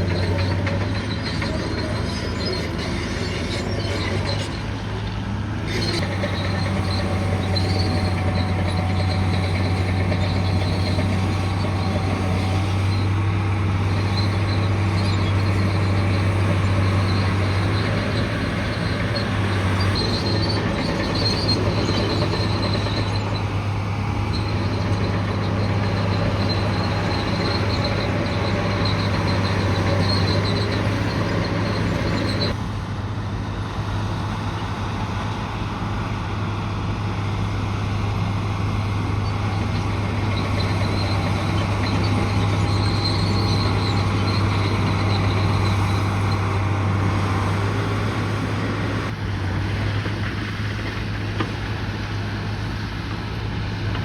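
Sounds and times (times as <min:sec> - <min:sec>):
metallic squeal of crawler tracks: 0:00.0 - 0:32.6, 0:38.2 - 0:49.2
bulldozer diesel engine running: 0:00.0 - 0:54.0.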